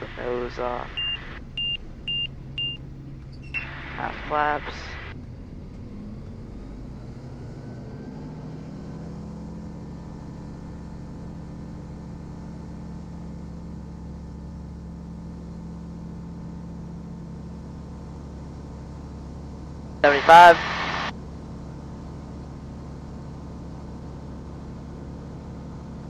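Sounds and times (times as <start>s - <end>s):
light aircraft engine at full throttle: 0.0s - 26.0s.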